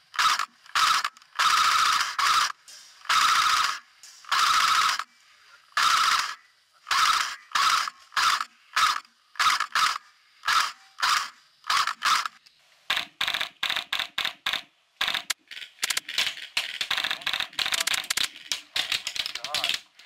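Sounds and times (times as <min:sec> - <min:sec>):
airsoft rifles firing: 0:00.1 - 0:05.1, 0:05.8 - 0:19.9.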